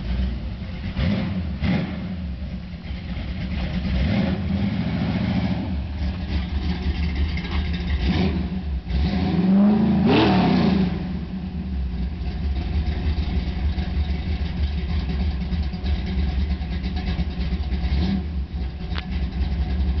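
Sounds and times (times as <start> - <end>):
truck engine idling: 0.0 - 9.0, 11.3 - 20.0.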